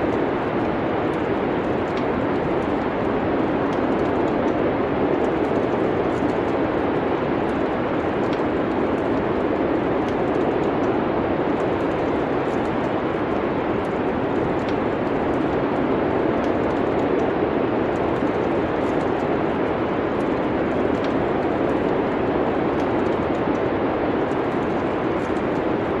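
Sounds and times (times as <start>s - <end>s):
small fire pops: 0.0s - 26.0s
steady rushing noise: 0.0s - 26.0s
wood fire crackling: 0.0s - 26.0s.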